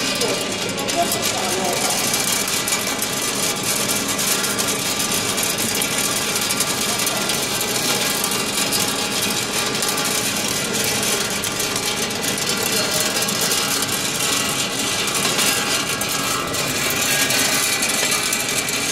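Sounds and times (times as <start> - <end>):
machine hum: 0.0 - 18.9
nuts rattling down steel chute: 0.0 - 18.9.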